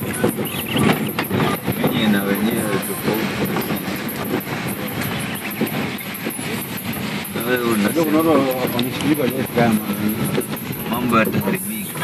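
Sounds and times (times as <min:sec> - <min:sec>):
car body rattling and knocking: 0:00.0 - 0:12.0
car driving on dirt road: 0:00.0 - 0:12.0.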